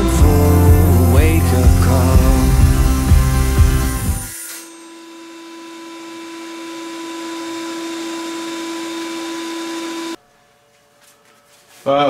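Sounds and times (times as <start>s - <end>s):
table saw whining: 0.0s - 10.2s.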